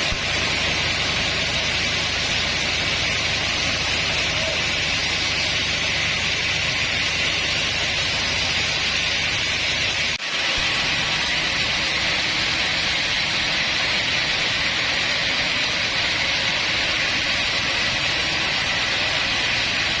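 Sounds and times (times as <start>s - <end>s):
sawmill machinery running: 0.0s - 20.0s.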